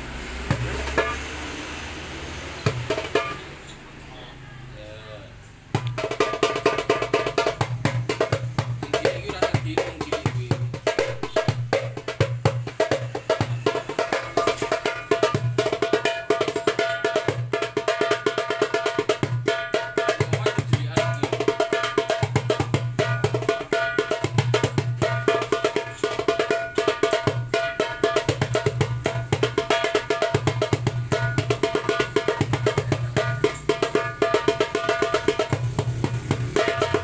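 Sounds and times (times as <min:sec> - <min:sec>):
darbuka deep bass strokes: 0:00.0 - 0:03.6, 0:05.7 - 0:37.0.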